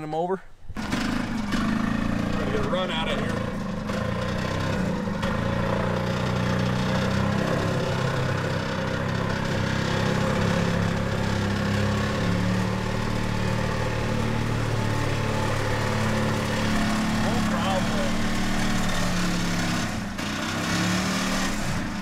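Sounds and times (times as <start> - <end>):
golf cart engine running: 0.6 - 22.0.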